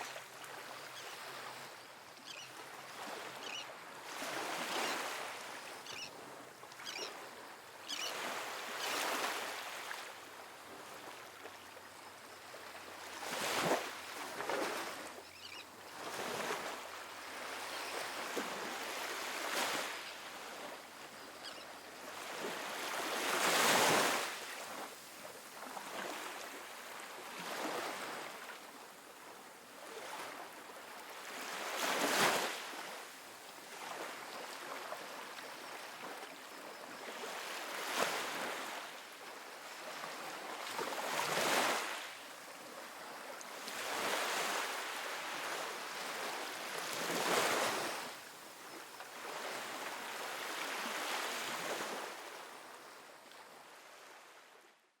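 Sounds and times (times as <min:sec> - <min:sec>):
ocean waves on a beach: 0:00.0 - 0:54.8.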